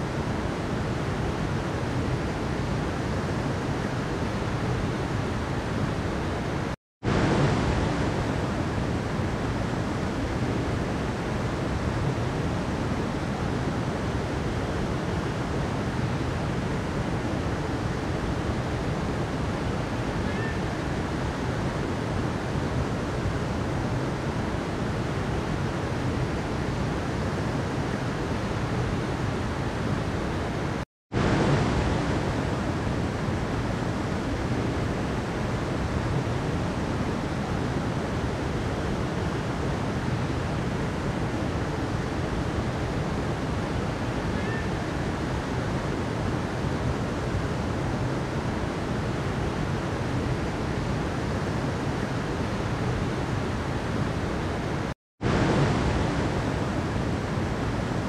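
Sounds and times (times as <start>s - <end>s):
mountain river flowing: 0.0s - 58.0s.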